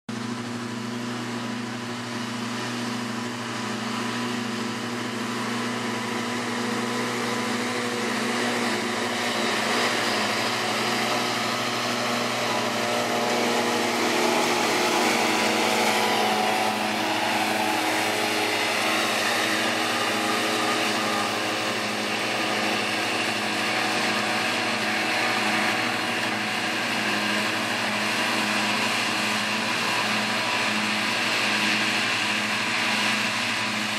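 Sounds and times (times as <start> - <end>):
mower discs whirring: 0.1 - 33.9
tractor diesel engine running: 0.1 - 33.9.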